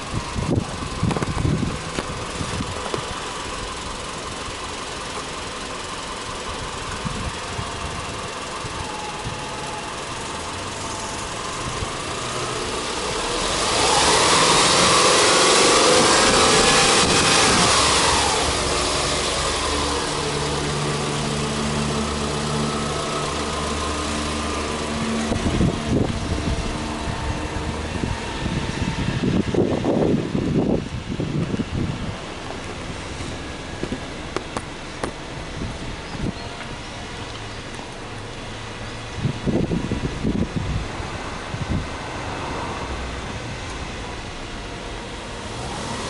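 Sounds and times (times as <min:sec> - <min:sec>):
buffeting noise: 0:00.0 - 0:46.0
car engine revving and idling: 0:00.0 - 0:46.0.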